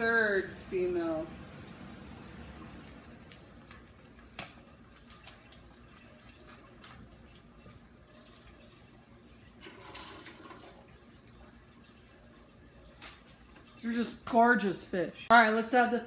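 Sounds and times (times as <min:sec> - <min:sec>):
aquarium water bubbling: 0:00.0 - 0:15.5.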